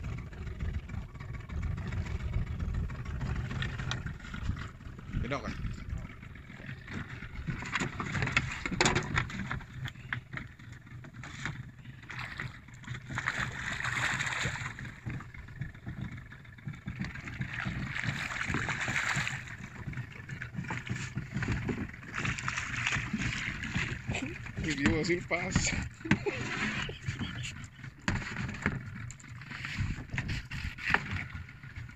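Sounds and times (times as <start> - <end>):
water splashing against boat: 0.0 - 31.9.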